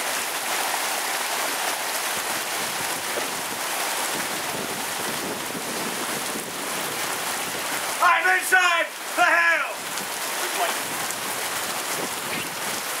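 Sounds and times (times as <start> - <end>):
rain and hail on wooden deck: 0.0 - 13.0.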